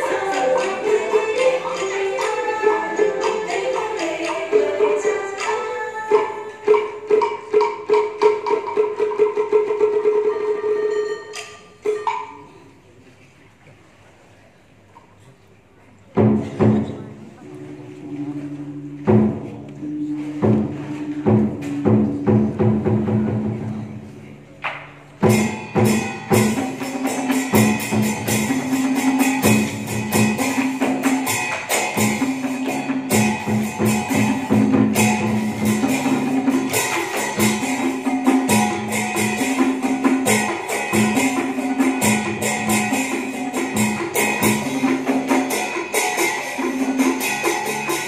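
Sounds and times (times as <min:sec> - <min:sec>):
ensemble percussion and melody: 0:00.0 - 0:12.9, 0:16.1 - 0:48.0.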